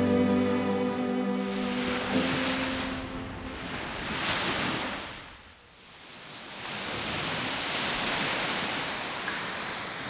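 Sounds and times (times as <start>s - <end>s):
sea waves washing in: 0.0s - 10.0s.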